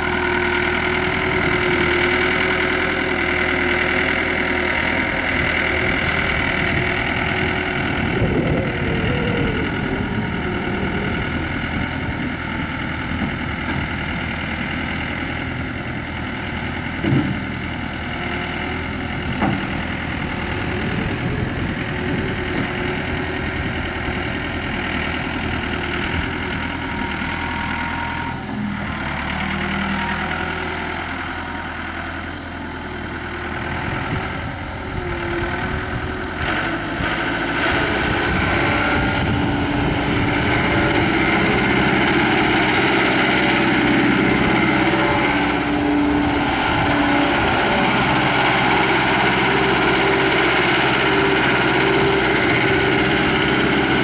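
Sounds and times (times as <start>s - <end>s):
diesel engine running: 0.0s - 54.0s
rising engine whine: 0.0s - 54.0s.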